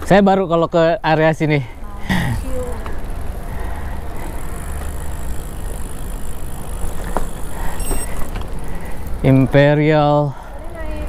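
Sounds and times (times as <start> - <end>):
bicycle tyre noise on road: 0.0 - 11.0.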